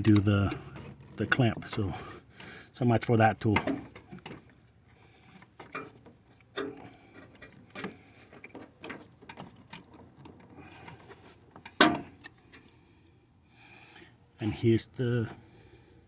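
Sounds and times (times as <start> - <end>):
light clicks and knocks of hoses: 0.0 - 12.9.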